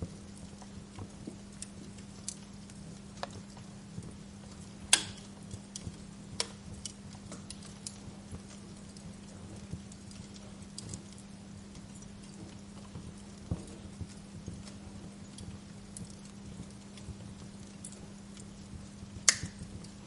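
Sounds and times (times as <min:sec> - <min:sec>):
steady low hum: 0:00.0 - 0:20.0
wood fire crackling: 0:00.0 - 0:20.0.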